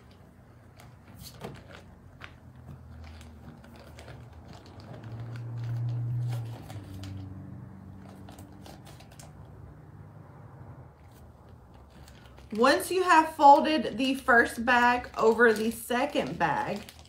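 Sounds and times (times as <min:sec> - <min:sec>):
plastic bags crinkling: 0:00.0 - 0:09.5, 0:11.1 - 0:17.0.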